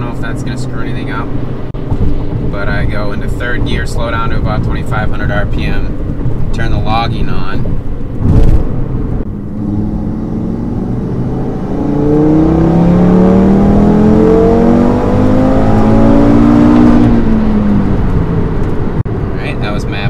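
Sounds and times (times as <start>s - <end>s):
car engine revving at full throttle: 0.0s - 20.0s.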